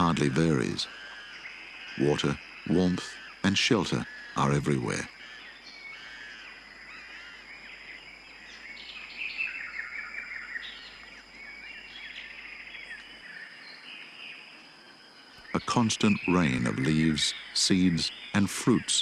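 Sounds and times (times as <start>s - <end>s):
birds chirping and whistling: 0.0s - 14.5s, 15.1s - 19.0s.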